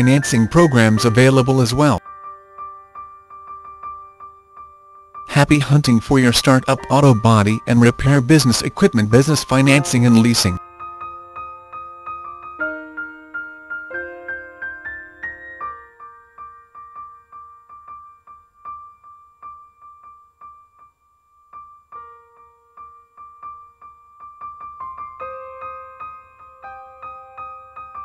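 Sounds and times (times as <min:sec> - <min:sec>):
soft piano melody: 0:00.0 - 0:28.0.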